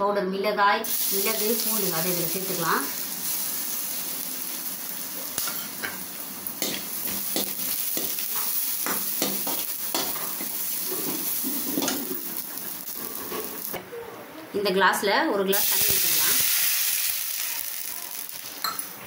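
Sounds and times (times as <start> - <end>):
spices sizzling in hot oil: 0.8 - 13.8, 15.5 - 19.0.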